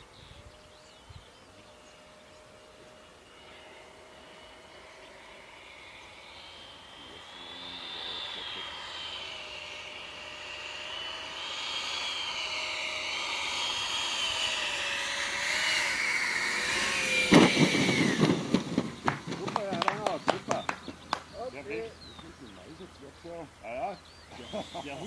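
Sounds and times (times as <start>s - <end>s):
model jet fan whine: 0.0s - 25.0s.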